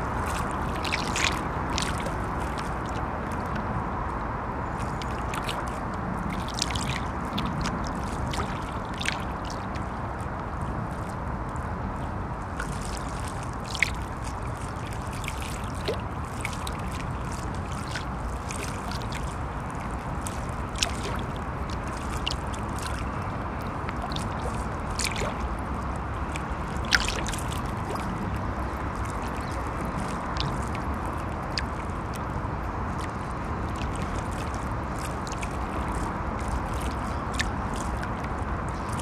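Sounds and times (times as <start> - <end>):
small sharp splashes: 0.0 - 3.6, 4.7 - 11.2, 12.5 - 39.0
heavy traffic rumble: 0.0 - 39.0
water lapping against bank: 0.0 - 39.0.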